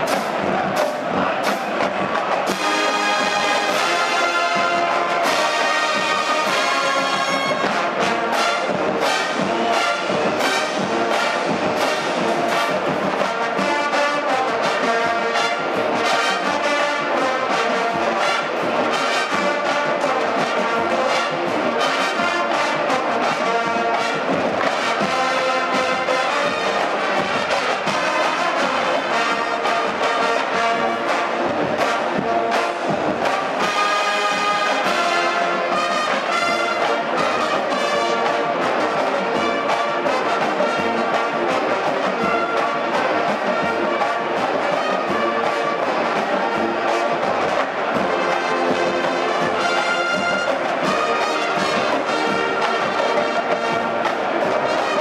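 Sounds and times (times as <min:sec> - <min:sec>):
marching drums: 0:00.0 - 0:55.0
brass playing tune: 0:02.4 - 0:55.0.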